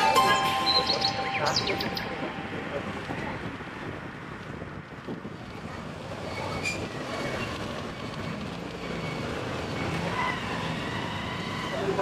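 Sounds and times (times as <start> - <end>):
motorcycle road rumble: 1.0 - 12.0.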